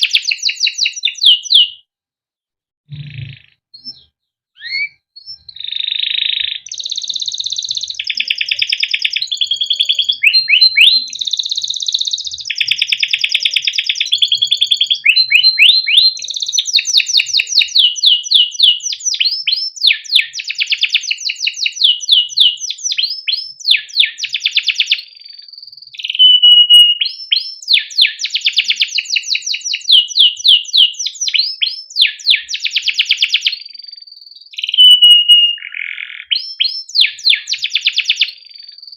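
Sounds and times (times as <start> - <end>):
canary singing: 0.0 - 1.8, 2.9 - 38.9.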